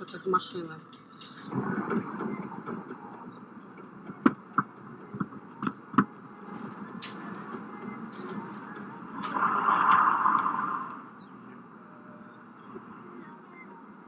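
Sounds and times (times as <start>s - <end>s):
tyres and engine rumble: 0.0s - 14.0s.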